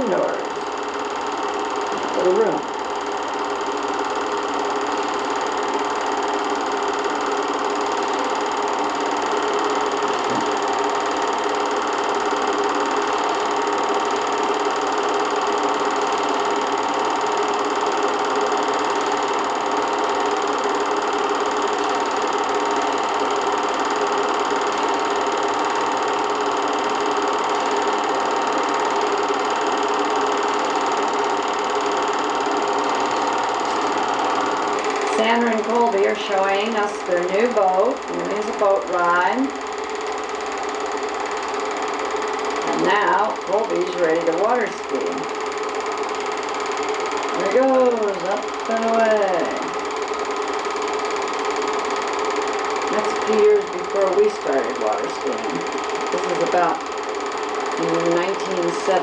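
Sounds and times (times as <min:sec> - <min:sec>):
film projector running: 0:00.0 - 0:59.0.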